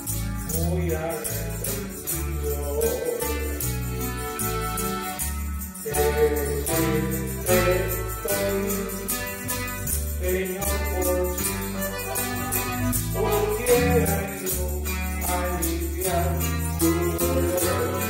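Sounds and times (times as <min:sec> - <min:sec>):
accordion melody: 0:00.0 - 0:18.0
electric bass notes: 0:00.0 - 0:18.0
jingling beat: 0:00.0 - 0:18.0.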